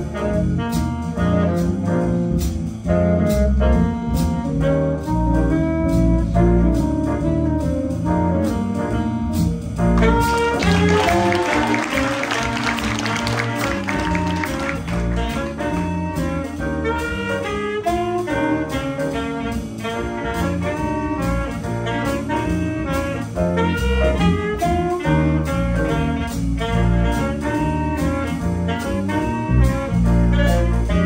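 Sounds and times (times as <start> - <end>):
bass line: 0.0 - 31.0
drum kit cymbal rhythm: 0.0 - 31.0
piano: 0.0 - 31.0
saxophone melody: 0.0 - 31.0.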